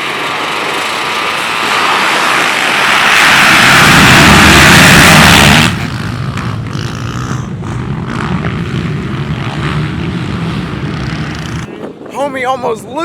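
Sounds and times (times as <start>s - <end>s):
steady engine drone: 0.0s - 12.1s
dirt bike engines running hard: 0.0s - 13.0s.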